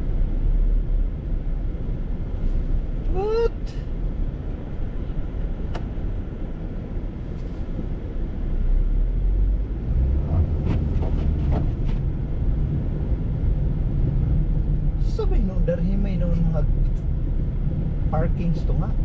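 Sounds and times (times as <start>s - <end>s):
low rumble of engine and tyres: 0.0s - 19.0s.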